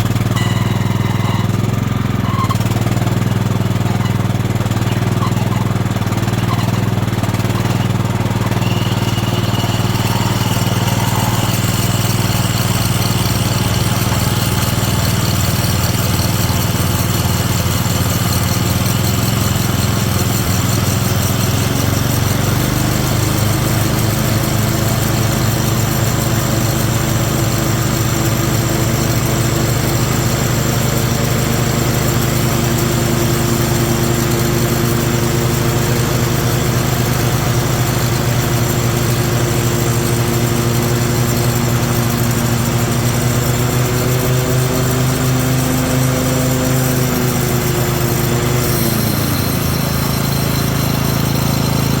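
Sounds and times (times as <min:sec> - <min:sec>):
lawn mower engine running: 0:00.0 - 0:52.0.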